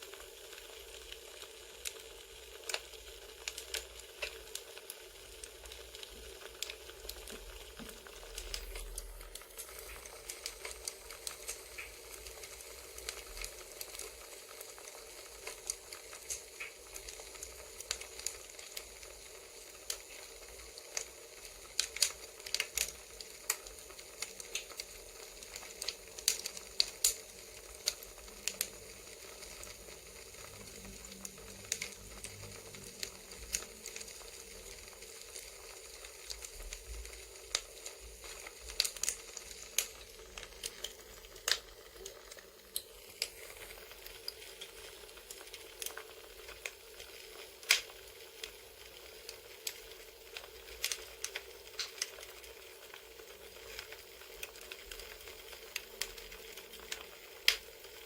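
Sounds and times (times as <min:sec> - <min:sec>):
burning wood popping and crackling: 0:00.0 - 0:58.0
campfire hiss: 0:00.0 - 0:58.0.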